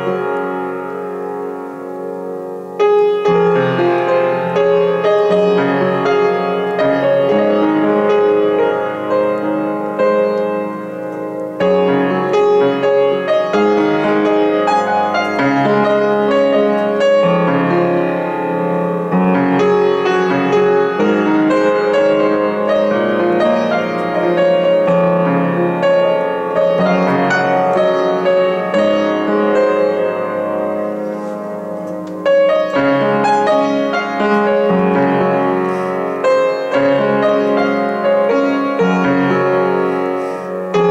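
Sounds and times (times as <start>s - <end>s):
solo piano chords: 0.0s - 40.9s.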